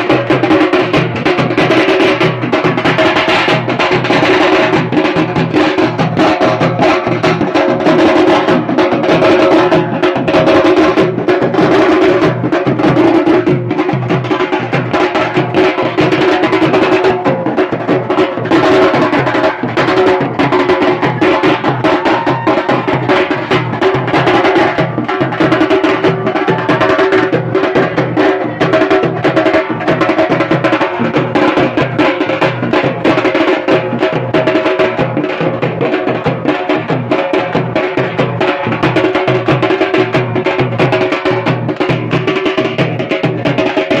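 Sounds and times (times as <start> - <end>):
loud fast drumming: 0.0 - 44.0.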